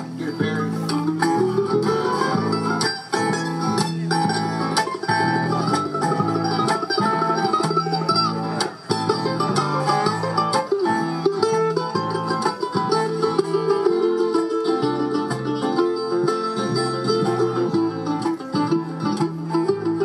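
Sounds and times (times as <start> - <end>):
acoustic guitar picking: 0.0 - 20.0
mandolin picking: 0.0 - 20.0
upright bass notes: 0.0 - 20.0.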